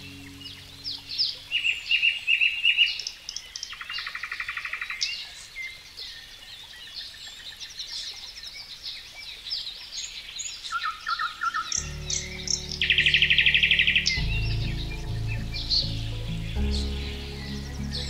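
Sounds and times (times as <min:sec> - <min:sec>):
songbirds chirping and whistling: 0:00.0 - 0:18.0.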